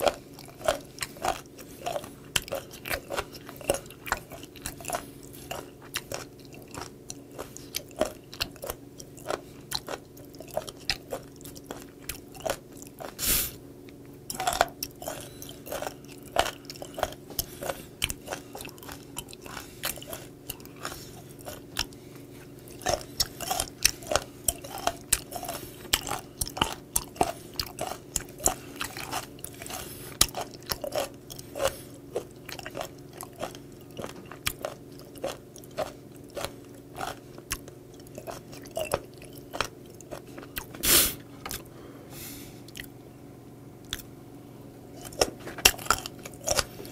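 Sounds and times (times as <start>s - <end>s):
crunchy chewing: 0.0s - 41.7s, 42.6s - 43.0s, 43.8s - 44.1s, 44.9s - 46.9s.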